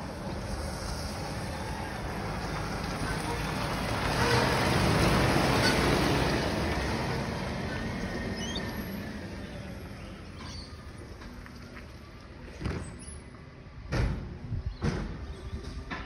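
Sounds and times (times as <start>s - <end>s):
garbage truck driving away: 0.0s - 13.9s.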